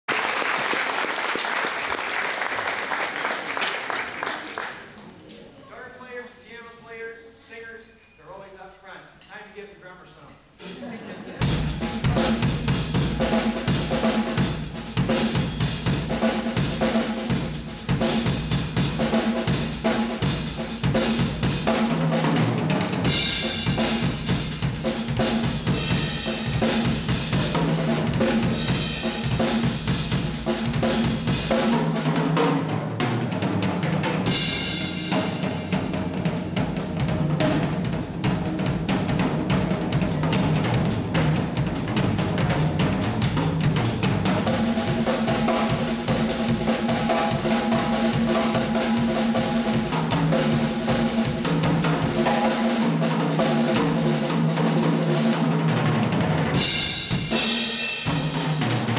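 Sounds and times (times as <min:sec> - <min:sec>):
drum kit solo: 0:10.5 - 0:58.9.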